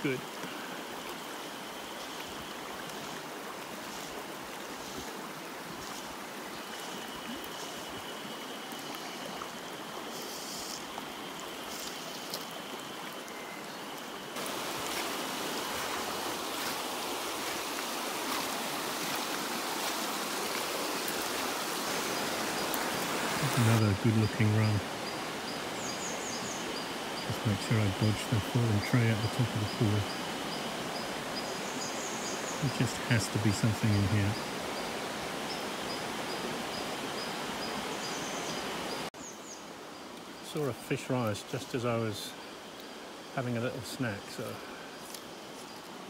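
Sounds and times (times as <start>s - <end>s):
river running over stones: 0.0s - 46.0s.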